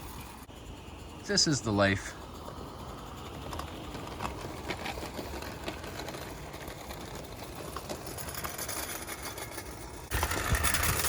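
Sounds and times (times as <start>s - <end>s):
toy steam locomotive running: 0.0s - 11.0s
wheels clicking over rails: 0.0s - 11.0s.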